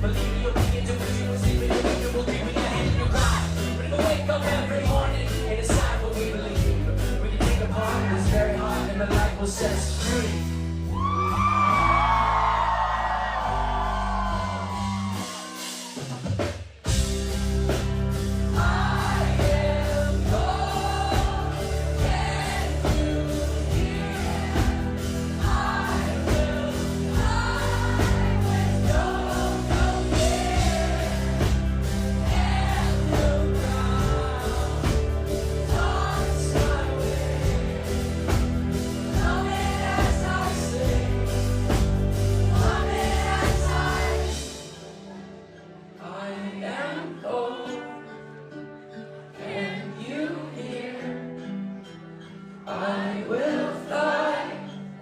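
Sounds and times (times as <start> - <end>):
live rock band with singing: 0.0 - 55.0.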